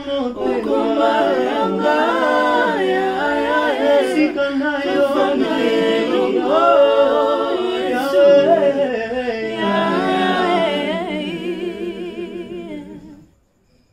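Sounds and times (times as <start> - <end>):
people singing a cappella: 0.0 - 13.5.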